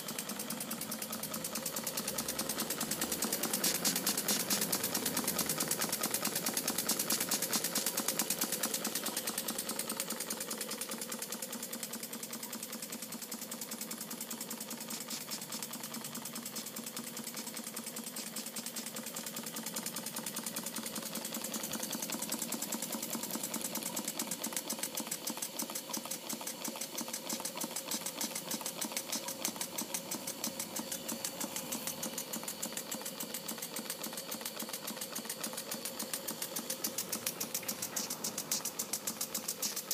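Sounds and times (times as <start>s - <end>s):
steam engine exhaust beat: 0.0s - 39.9s
steam hiss: 0.0s - 39.9s
valve-gear clicks: 0.0s - 39.9s.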